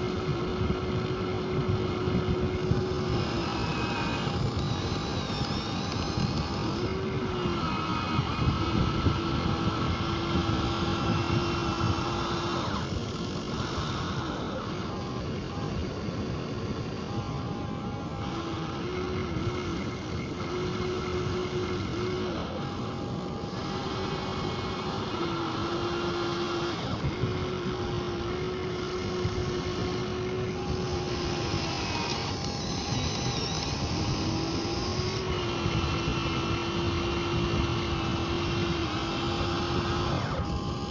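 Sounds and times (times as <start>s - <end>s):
small electric motor whine: 0.0s - 40.9s.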